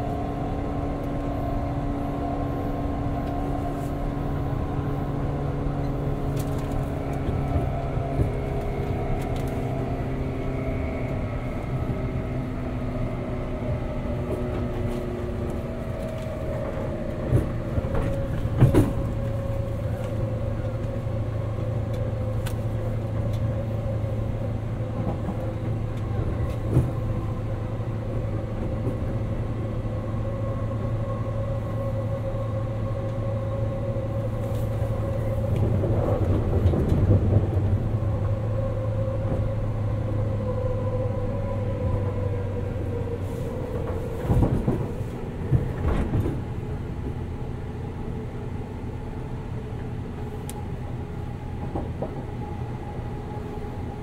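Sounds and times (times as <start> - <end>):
low train rumble: 0.0 - 54.0
train motor whine: 0.0 - 54.0.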